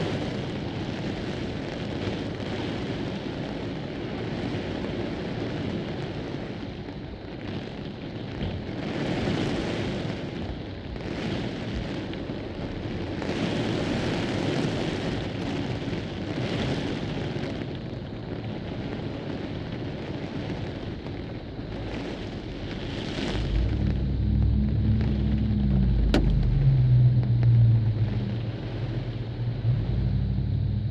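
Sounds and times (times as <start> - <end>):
gusting wind: 0.0 - 30.9
heavy rain: 0.0 - 30.9.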